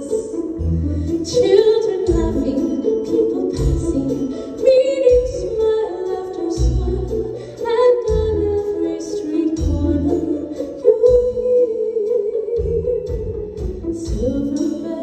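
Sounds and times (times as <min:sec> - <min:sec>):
band playing: 0:00.0 - 0:15.0
woman singing: 0:00.0 - 0:15.0.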